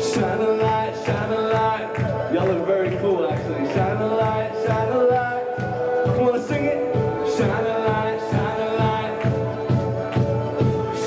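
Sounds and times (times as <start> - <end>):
band drum beat: 0.0 - 11.0
voices singing: 0.0 - 11.0.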